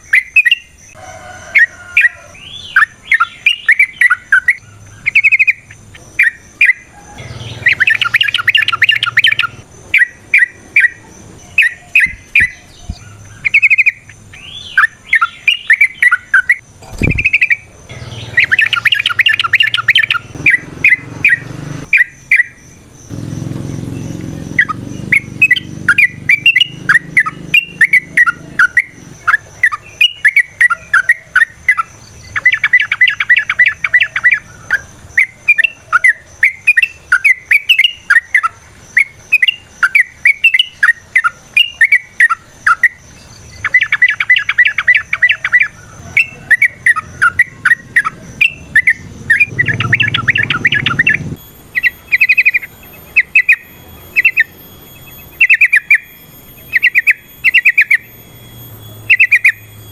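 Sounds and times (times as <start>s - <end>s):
bulbul singing bubbling chirps: 0.0s - 1.0s, 1.6s - 59.9s.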